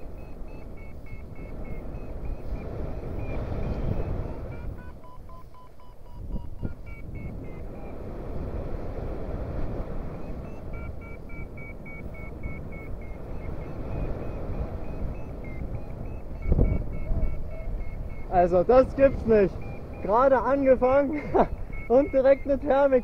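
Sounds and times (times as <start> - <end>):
variometer beeping: 0.0 - 8.7, 9.5 - 23.0
wind rushing past microphone: 0.0 - 23.0.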